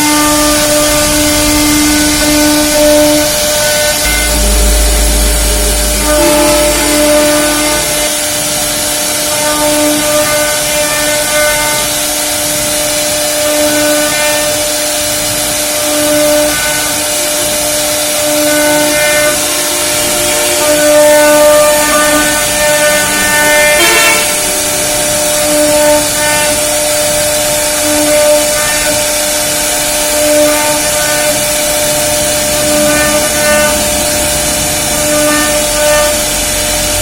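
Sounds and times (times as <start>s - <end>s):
router spindle cutting wood: 0.0s - 37.0s.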